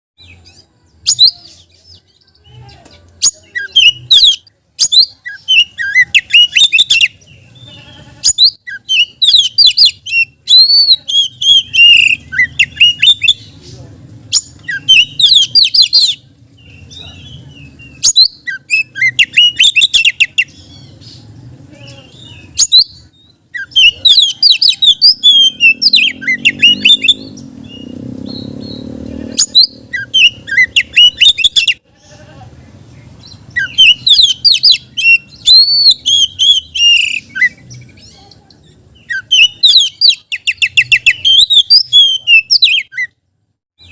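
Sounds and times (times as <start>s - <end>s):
bird singing chirps and whistles: 0.2s - 7.2s, 8.3s - 13.5s, 14.3s - 21.1s, 22.0s - 31.8s, 33.2s - 38.2s, 39.0s - 43.2s.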